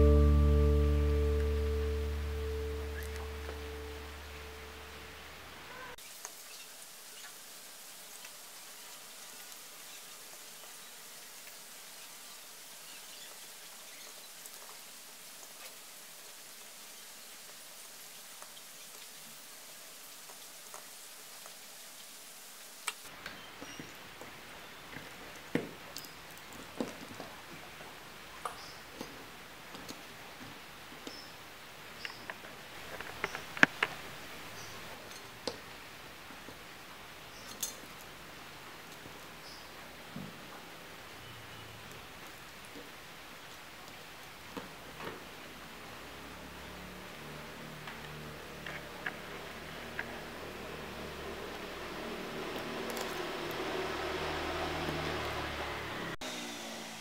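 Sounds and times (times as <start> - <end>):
background hiss: 0.0 - 57.0.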